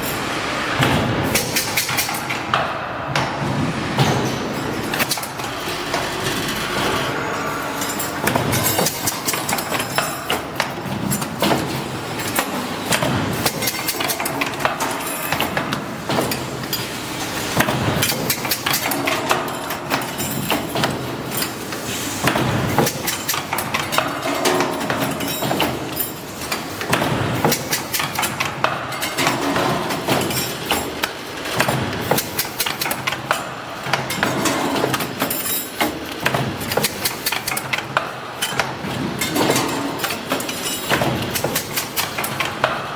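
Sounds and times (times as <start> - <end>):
machine clattering: 0.0 - 42.9
steady mechanical noise: 0.0 - 42.9.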